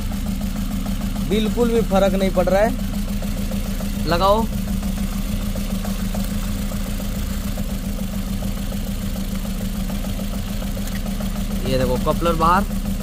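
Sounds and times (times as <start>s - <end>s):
car engine idling with misfire: 0.0s - 13.0s
light irregular ticking: 0.0s - 13.0s.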